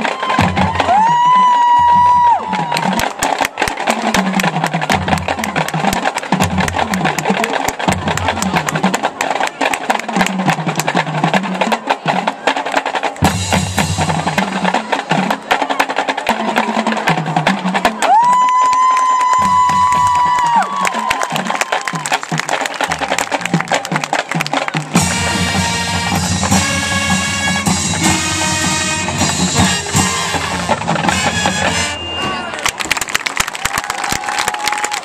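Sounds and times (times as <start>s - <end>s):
snare and bass drums playing: 0.0s - 32.6s.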